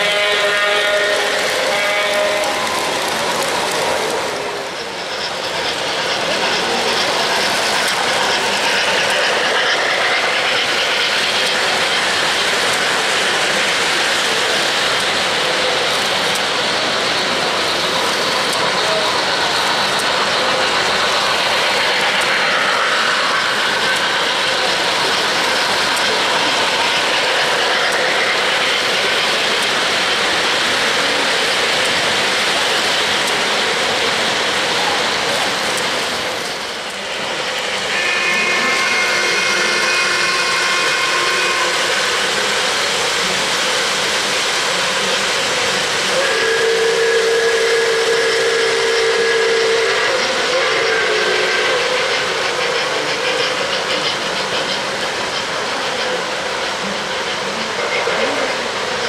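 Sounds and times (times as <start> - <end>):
model train wheels rolling on track: 0.0 - 59.0.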